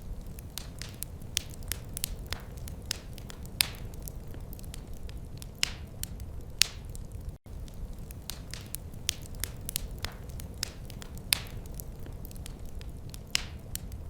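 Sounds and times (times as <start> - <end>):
fire popping and snapping: 0.0 - 14.0
low rumble of fire: 0.0 - 14.0
wood fire crackling: 0.0 - 14.0.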